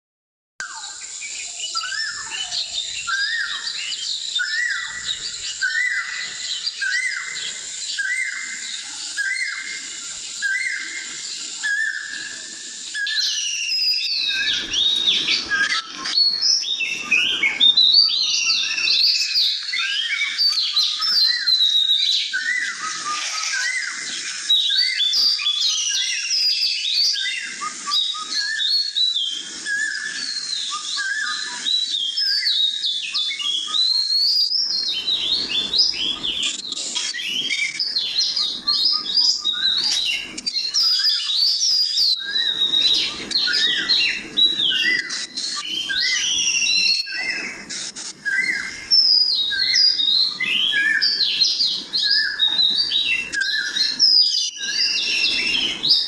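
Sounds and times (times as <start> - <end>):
bird whistled note: 0.6 - 56.0.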